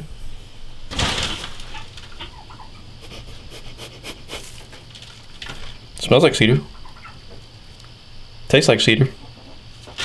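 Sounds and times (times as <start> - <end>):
chickens and turkeys clucking: 1.6 - 10.0.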